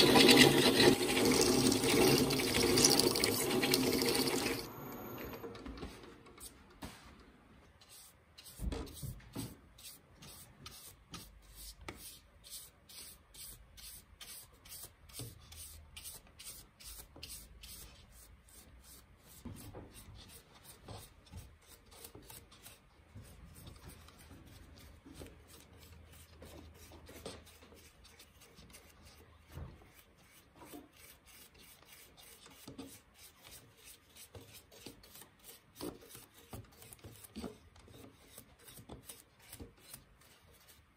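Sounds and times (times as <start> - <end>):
brush rubbing on wood: 7.8 - 40.9.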